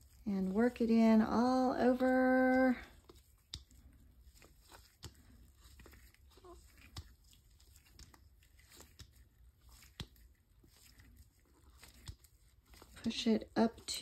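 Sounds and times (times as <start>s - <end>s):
faint rustling: 0.0s - 14.0s.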